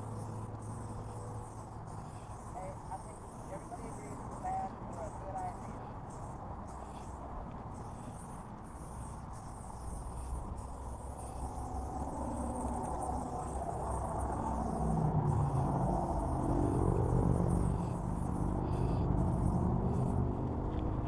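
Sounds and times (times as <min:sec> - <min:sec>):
spray-paint can hissing: 0:00.0 - 0:20.8
low engine rumble: 0:00.0 - 0:21.0.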